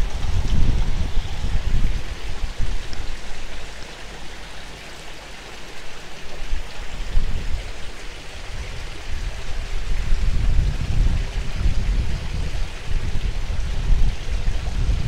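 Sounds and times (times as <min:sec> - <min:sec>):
wind buffeting microphone: 0:00.0 - 0:03.8, 0:06.4 - 0:15.0
waterfall splashing into pond: 0:00.0 - 0:15.0.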